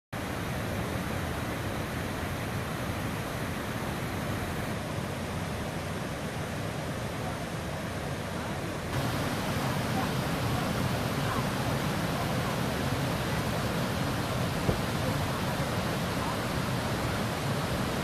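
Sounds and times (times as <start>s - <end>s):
water rushing over waterfall: 0.2s - 18.0s.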